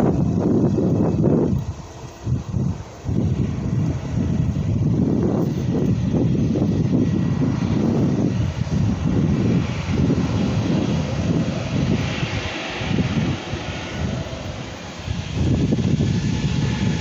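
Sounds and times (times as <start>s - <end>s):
jet engines at takeoff power: 0.0s - 17.0s
wind buffeting microphone: 0.0s - 17.0s.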